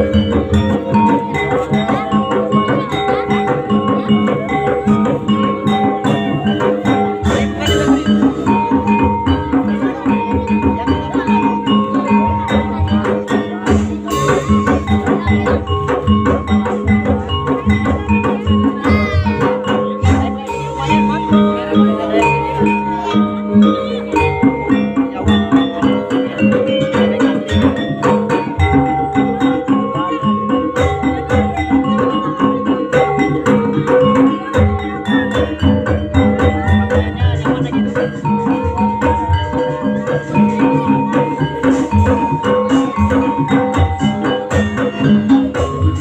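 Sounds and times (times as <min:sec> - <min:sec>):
drums and gamelan percussion: 0:00.0 - 0:46.0.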